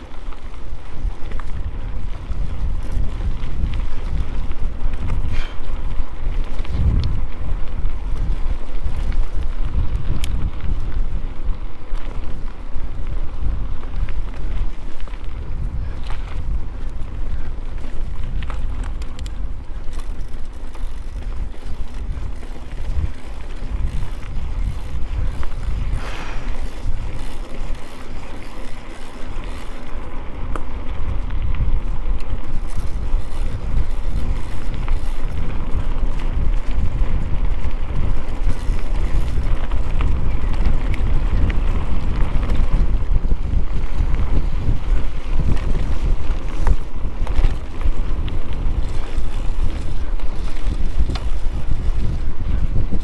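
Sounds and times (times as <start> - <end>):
bike rattling on rough trail: 0.0 - 53.0
wind noise on microphone: 0.0 - 53.0.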